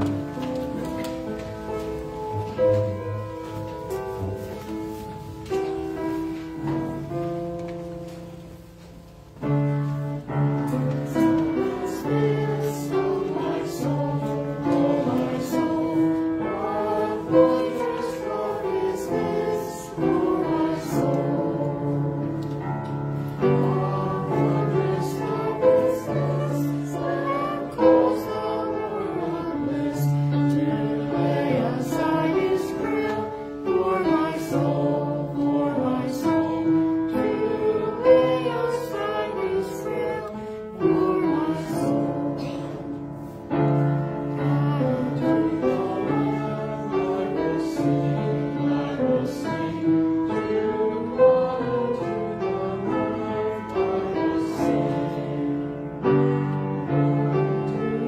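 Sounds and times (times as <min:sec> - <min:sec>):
congregation singing a hymn: 0:00.0 - 0:58.0
keyboard accompaniment: 0:00.0 - 0:58.0.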